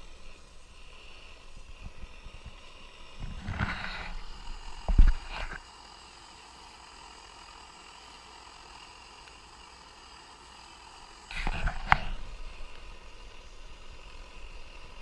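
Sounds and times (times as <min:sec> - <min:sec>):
camping stove hissing: 0:00.0 - 0:15.0.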